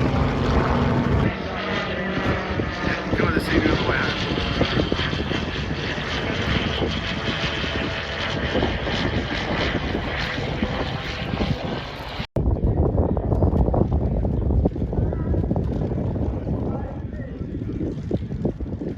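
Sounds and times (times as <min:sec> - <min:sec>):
low rumbly noise: 0:00.0 - 0:18.9
propeller aircraft engine drone: 0:00.0 - 0:18.9.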